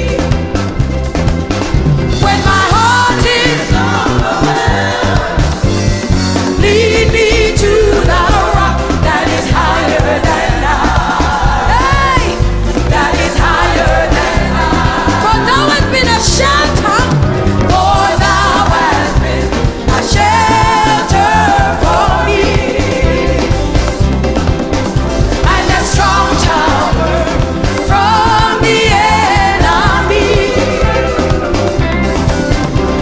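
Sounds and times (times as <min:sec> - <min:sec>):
pulsing bass beat: 0:00.0 - 0:33.0.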